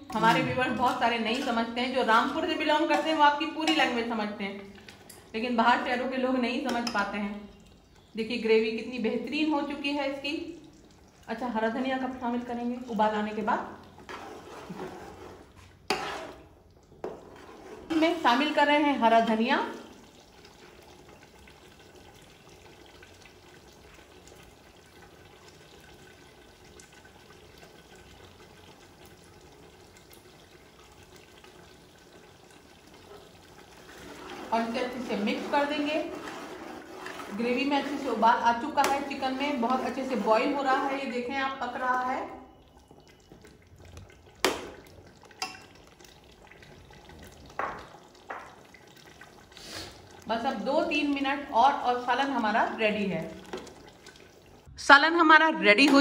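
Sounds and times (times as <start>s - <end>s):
curry bubbling in a pot: 0.0s - 54.7s.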